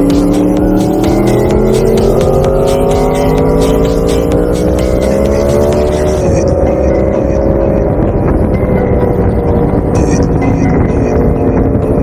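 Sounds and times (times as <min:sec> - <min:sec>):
motorcycle engine revving down: 0:00.0 - 0:11.7
low wind rumble: 0:00.0 - 0:12.0.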